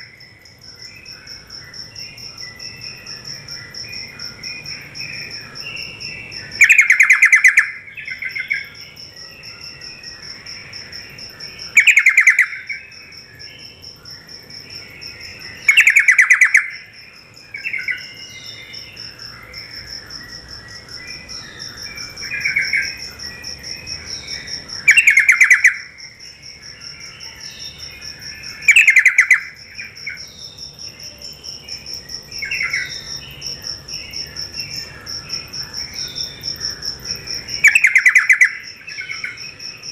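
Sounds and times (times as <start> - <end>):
pulsing cricket trill: 0.0 - 39.9.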